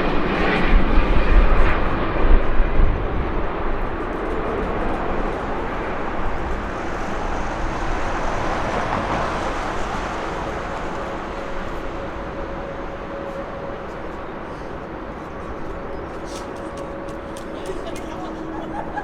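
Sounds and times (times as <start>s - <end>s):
faint engine whine: 0.0s - 19.0s
jet engines rushing: 0.0s - 19.0s.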